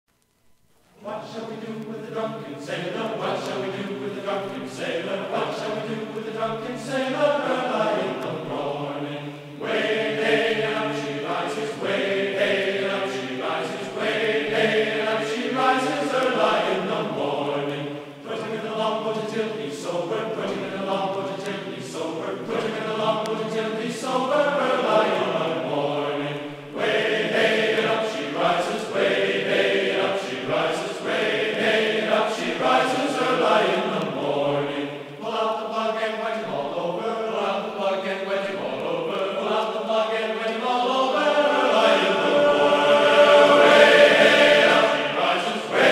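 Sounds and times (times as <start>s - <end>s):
choir-like chanted vocals: 1.0s - 45.9s.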